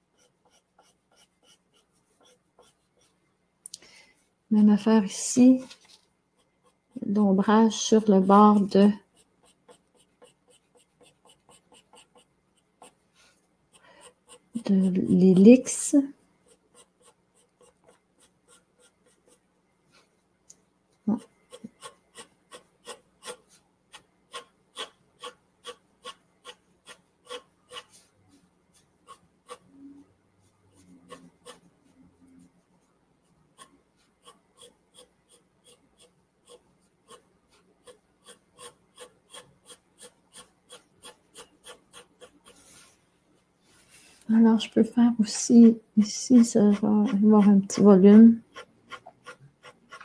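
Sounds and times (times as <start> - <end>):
pencil scratching on paper: 0.0 - 3.2, 4.7 - 20.2, 21.1 - 29.8, 30.4 - 32.6, 33.2 - 43.1, 43.9 - 50.0.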